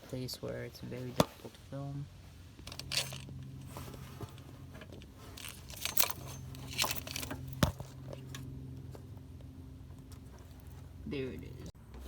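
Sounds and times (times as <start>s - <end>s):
steady low hum: 0.0s - 12.0s
hands working a rubber hose: 2.2s - 12.0s.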